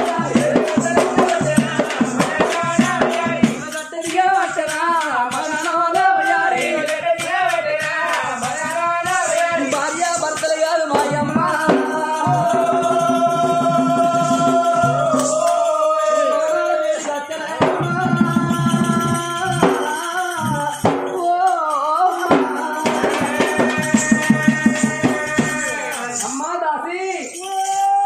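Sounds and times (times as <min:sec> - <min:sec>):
drum: 0:00.0 - 0:15.5, 0:17.0 - 0:26.2
folk singing voices: 0:00.0 - 0:28.0
jingling percussion: 0:00.0 - 0:28.0.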